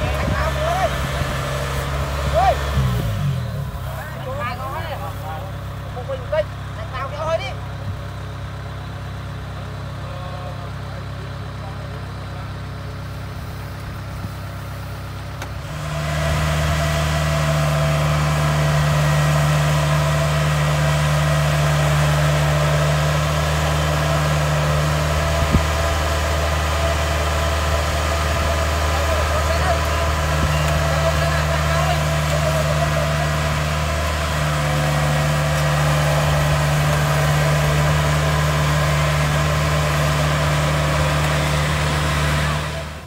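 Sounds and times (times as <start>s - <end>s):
combine harvester engine: 0.0s - 43.0s.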